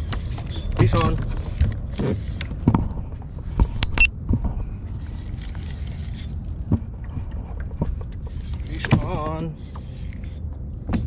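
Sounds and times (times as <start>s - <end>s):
fishing gear knocking and clicking: 0.0s - 11.0s
steady low rumble: 0.0s - 11.0s.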